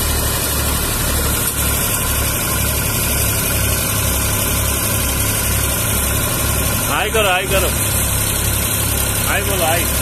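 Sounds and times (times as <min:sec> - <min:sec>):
tractor engine throbbing: 0:00.0 - 0:10.0.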